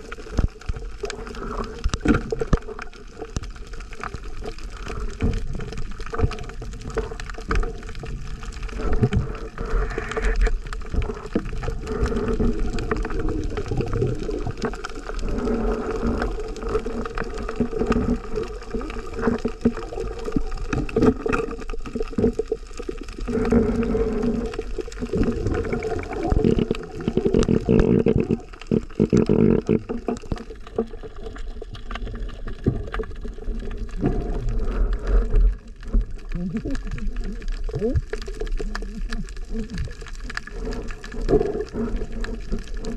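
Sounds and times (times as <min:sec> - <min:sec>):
muffled underwater sloshing and bubbling: 0:00.0 - 0:42.9.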